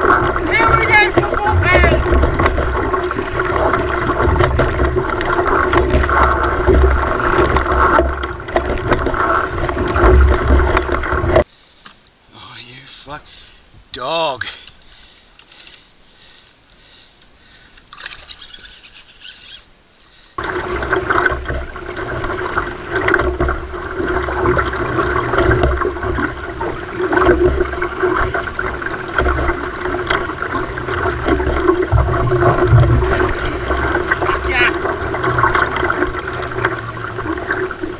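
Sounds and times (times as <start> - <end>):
rushing water: 0.0 - 11.5, 17.3 - 37.9
faint water sounds: 0.0 - 37.9.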